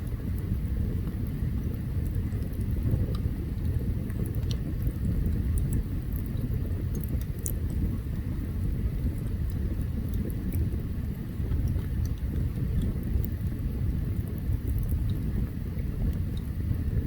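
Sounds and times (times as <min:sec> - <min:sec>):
wood crackling and popping: 0:00.0 - 0:16.6
campfire rumbling: 0:00.0 - 0:17.0.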